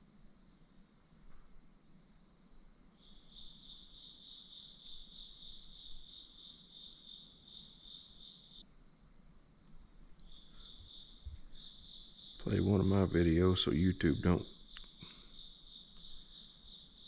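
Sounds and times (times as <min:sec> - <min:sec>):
pulsing insect trill: 0:00.0 - 0:17.0
steady insect trill: 0:00.0 - 0:17.0.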